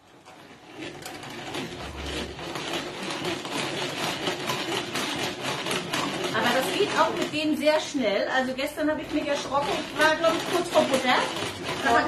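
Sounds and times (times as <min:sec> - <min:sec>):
hand-cranked whisk whirring: 0:00.0 - 0:12.0.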